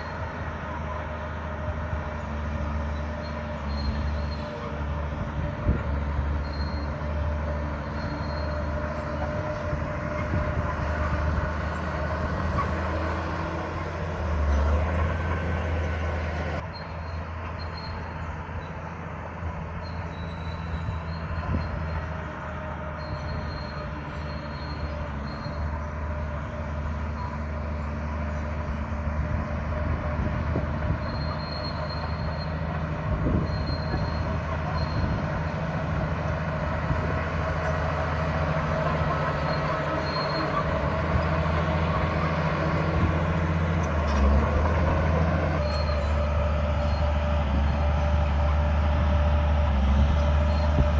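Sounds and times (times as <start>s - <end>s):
bulldozer diesel engine: 0.0s - 50.9s
squealing steel tracks: 0.0s - 50.9s.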